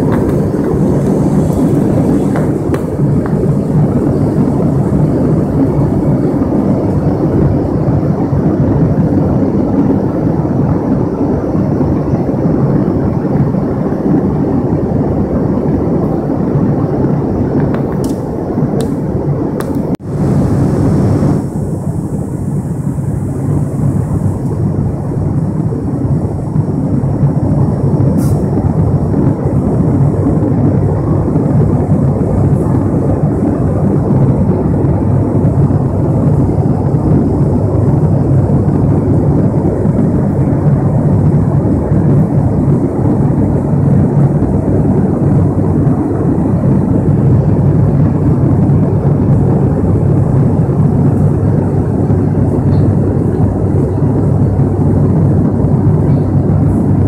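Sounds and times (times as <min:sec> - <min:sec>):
turboprop engine drone: 0:00.0 - 0:57.0.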